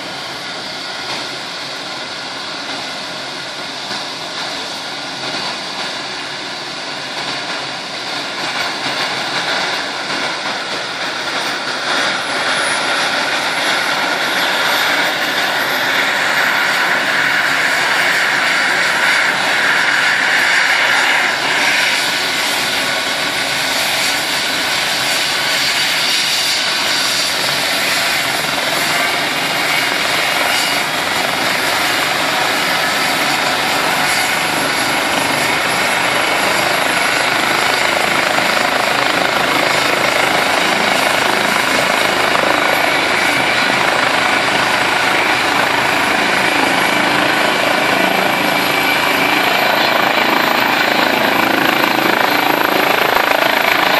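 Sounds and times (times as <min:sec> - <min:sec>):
helicopter engine and rotor: 0:00.0 - 0:53.9.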